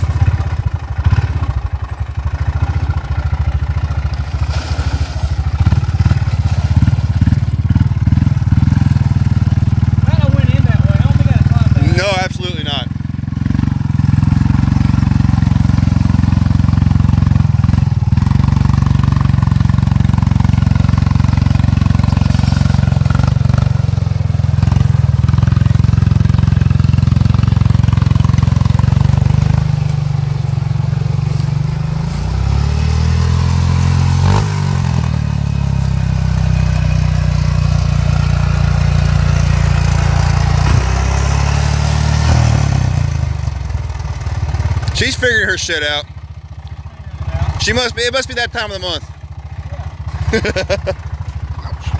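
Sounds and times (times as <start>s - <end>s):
atv engine revving under load: 0.0s - 51.9s.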